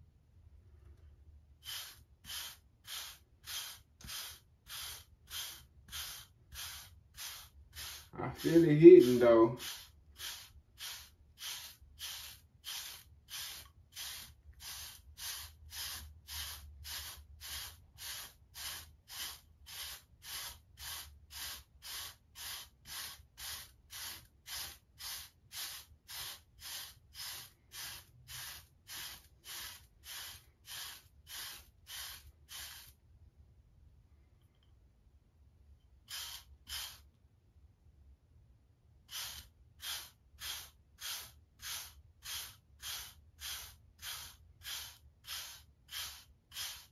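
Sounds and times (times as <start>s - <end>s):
brush sweeping over hair: 1.6s - 33.0s, 39.1s - 46.9s.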